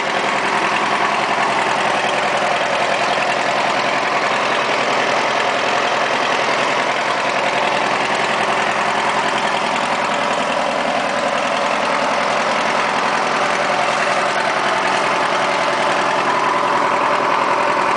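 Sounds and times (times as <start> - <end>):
tractor engine idling: 0.0 - 17.9.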